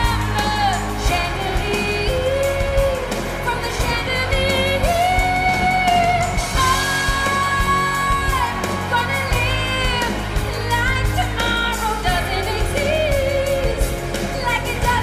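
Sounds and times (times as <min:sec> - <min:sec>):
pop band backing music: 0:00.0 - 0:15.0.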